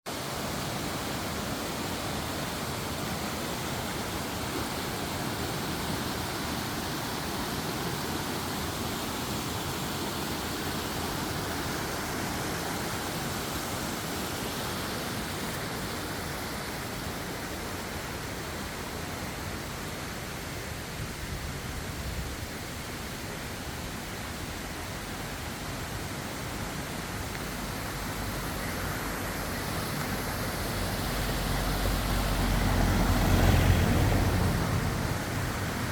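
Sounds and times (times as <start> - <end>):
running water rushing: 0.1 - 35.9.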